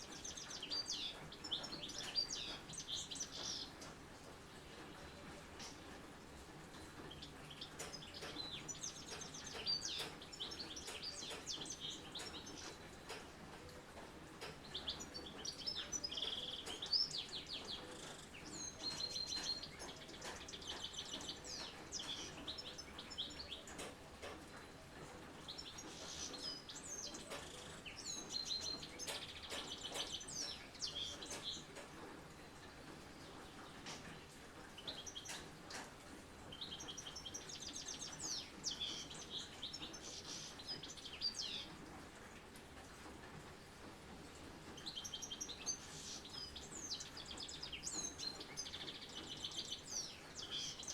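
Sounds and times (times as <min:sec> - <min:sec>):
songbirds singing and chirping: 0:00.0 - 0:42.0, 0:43.6 - 0:50.9.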